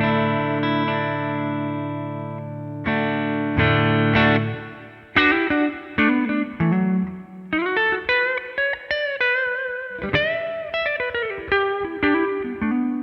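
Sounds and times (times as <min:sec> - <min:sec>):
overdriven electric guitar lead: 0:00.0 - 0:13.0
ringing guitar chord: 0:00.0 - 0:13.0.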